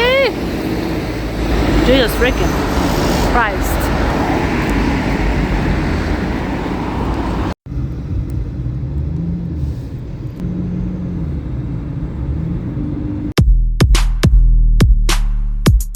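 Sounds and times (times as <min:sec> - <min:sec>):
car engine hum in motion: 0:00.0 - 0:13.4
road traffic noise: 0:00.0 - 0:13.4.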